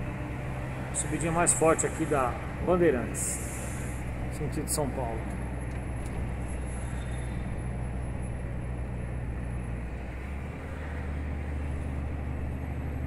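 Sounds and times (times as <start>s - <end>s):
diesel truck engine pulling hard: 0.0s - 13.0s.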